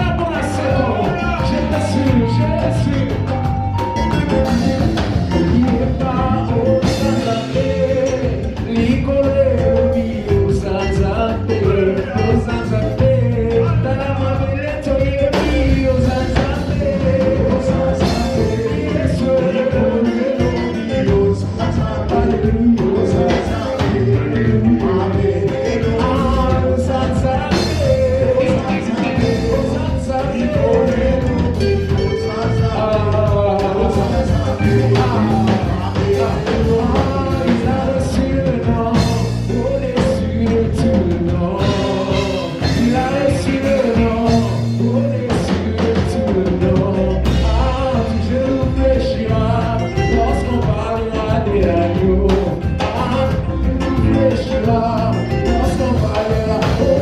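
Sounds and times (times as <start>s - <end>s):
bass: 0.0s - 57.0s
drum kit: 0.0s - 57.0s
person singing: 0.0s - 57.0s
upbeat worship band playing: 0.0s - 57.0s.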